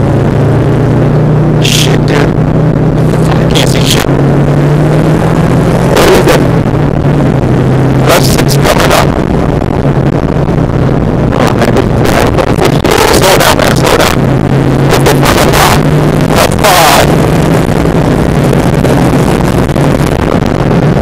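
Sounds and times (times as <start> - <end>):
car engine at speed: 0.0 - 21.0.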